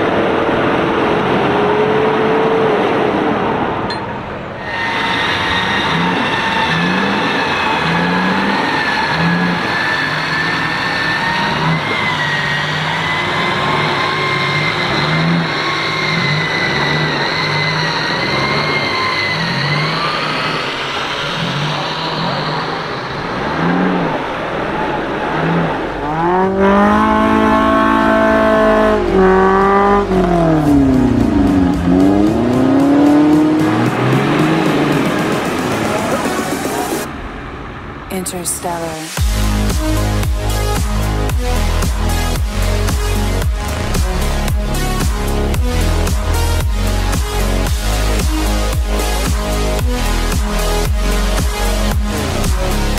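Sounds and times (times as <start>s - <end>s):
off-road engine revving: 4.7s - 37.1s, 39.1s - 52.9s.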